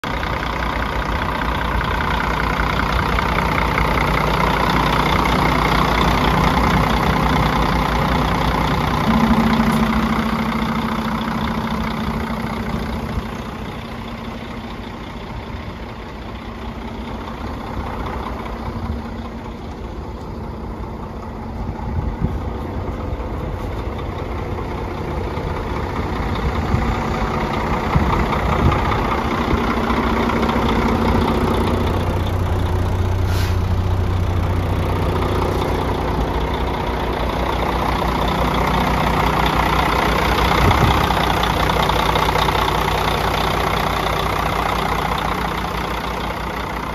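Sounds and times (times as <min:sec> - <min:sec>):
truck diesel engine idling: 0:00.0 - 0:46.9.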